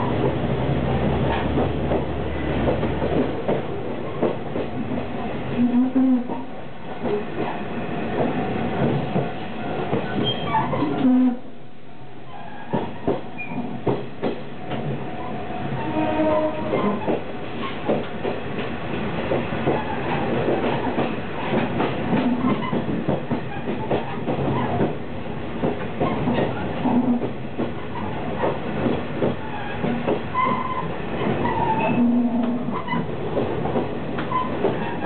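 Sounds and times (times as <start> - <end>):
train wheels clacking over rail joints: 0.0 - 11.1, 12.5 - 35.0
train running rumble: 0.0 - 35.0.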